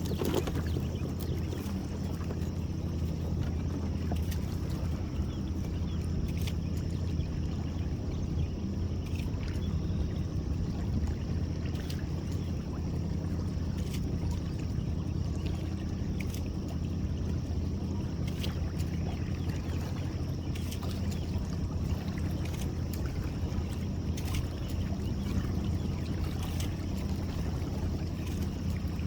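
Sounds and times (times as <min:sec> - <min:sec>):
boat motor humming: 0:00.0 - 0:29.0.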